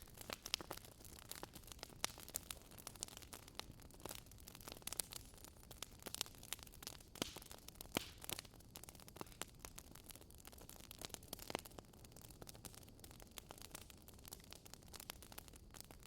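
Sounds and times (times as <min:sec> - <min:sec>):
fire crackling and popping: 0:00.0 - 0:16.0
soft steady fire hiss: 0:00.0 - 0:16.0.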